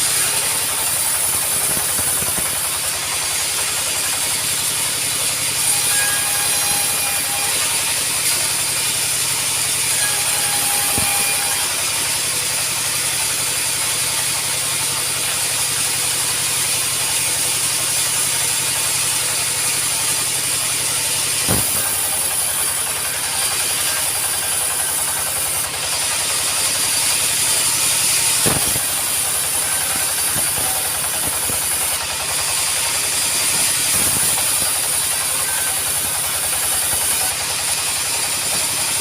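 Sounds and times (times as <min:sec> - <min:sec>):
sawmill machinery rattling: 0:00.0 - 0:39.0.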